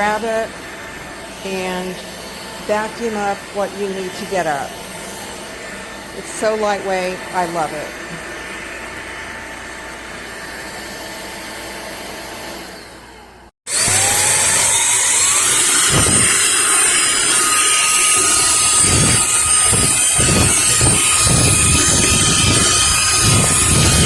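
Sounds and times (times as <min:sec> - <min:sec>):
vacuum cleaner motor whine: 0:00.0 - 0:24.0.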